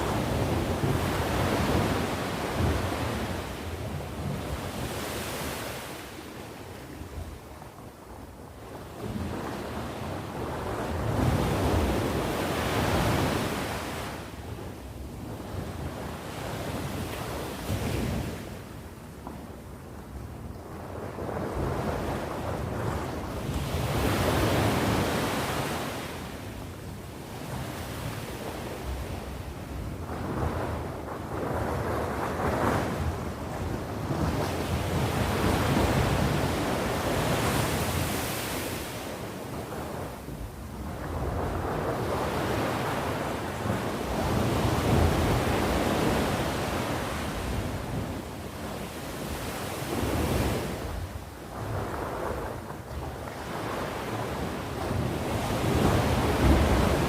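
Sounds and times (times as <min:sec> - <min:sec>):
ocean waves breaking on shore: 0:00.0 - 0:18.9, 0:19.9 - 0:57.0
wind rumbling on microphone: 0:00.0 - 0:57.0.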